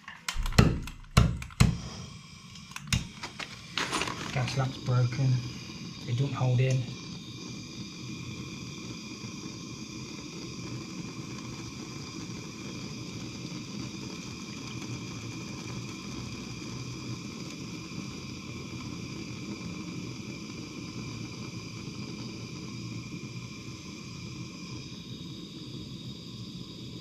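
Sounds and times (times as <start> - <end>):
blowtorch hissing: 0.0 - 27.0.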